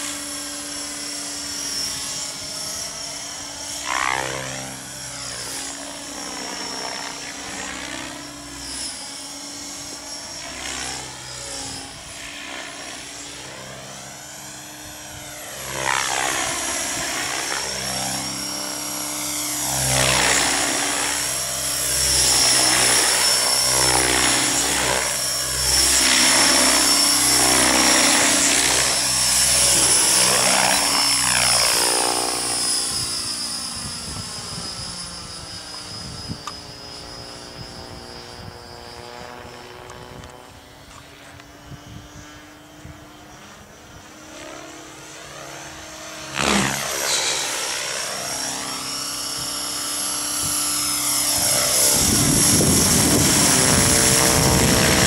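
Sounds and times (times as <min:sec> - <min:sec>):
model helicopter motor and rotor whine: 0:00.0 - 0:55.0.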